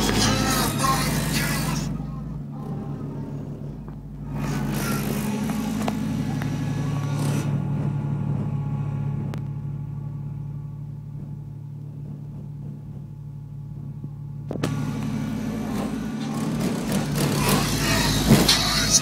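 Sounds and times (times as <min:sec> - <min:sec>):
deep subwoofer bass music: 0:00.0 - 0:19.0.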